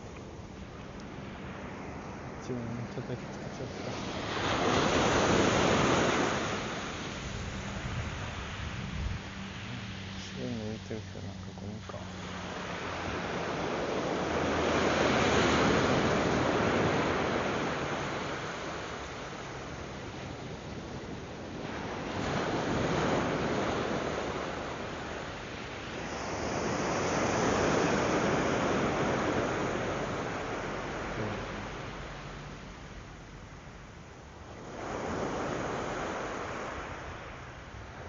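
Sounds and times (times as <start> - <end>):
surf waves breaking on beach: 0.0 - 38.0.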